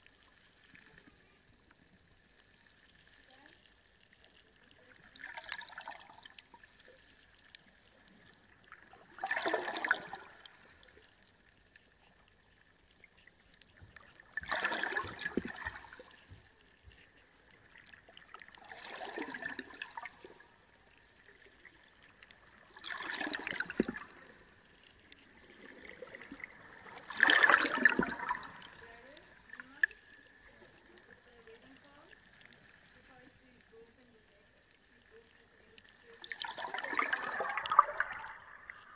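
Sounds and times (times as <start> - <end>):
aquarium water gurgling and splashing: 0.0 - 38.9.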